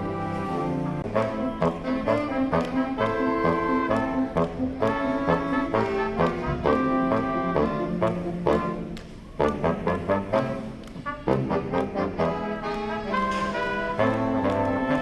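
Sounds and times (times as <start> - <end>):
brass music: 0.0 - 15.0.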